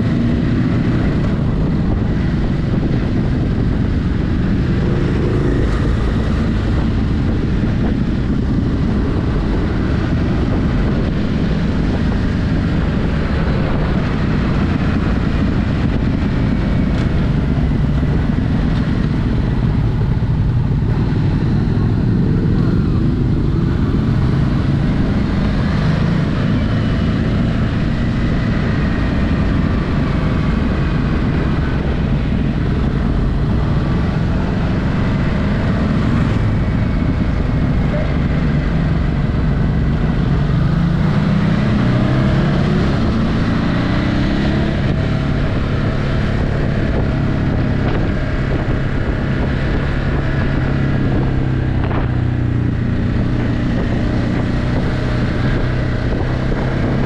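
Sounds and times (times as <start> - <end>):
motorcycle engine cruising: 0.0 - 57.0
wind noise on microphone: 0.0 - 57.0.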